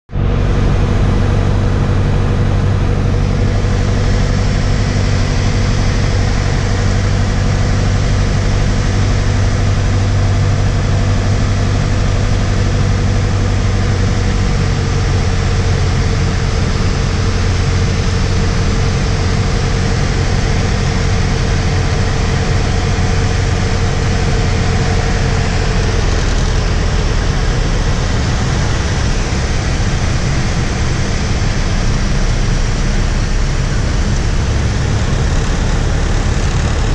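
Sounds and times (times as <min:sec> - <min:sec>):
light aircraft engine droning: 0:00.1 - 0:36.9.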